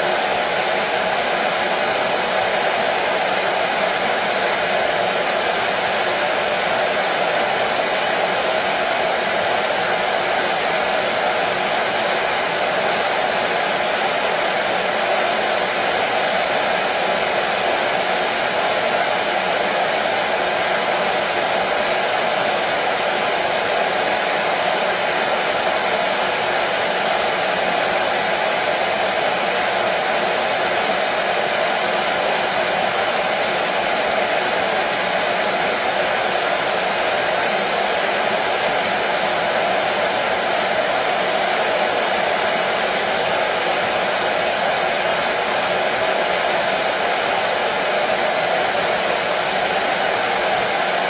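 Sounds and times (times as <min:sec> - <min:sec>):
washing machine running: 0:00.0 - 0:51.0.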